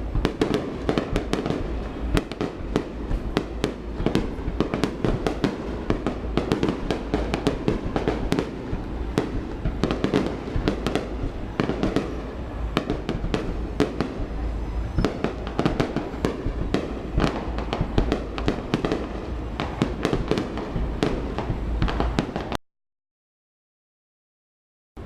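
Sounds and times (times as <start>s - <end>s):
fireworks bangs and crackling: 0.0s - 22.6s
low rumble of explosions: 0.0s - 22.6s.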